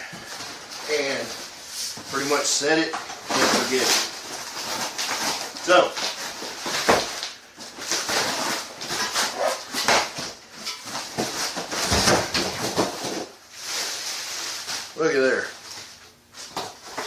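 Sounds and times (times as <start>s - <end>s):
packing scraping and rustling: 0.1s - 17.0s.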